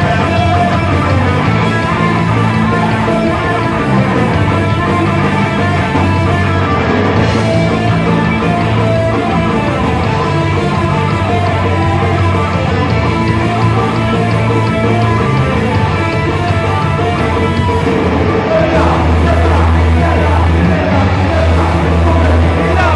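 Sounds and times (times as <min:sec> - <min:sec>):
heavy metal music: 0:00.0 - 0:22.9.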